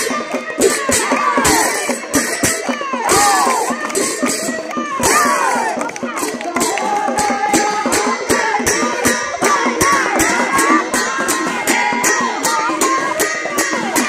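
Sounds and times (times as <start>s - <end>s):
hands clapping steady beat: 0.0s - 14.0s
women singing a chant in unison: 0.0s - 14.0s.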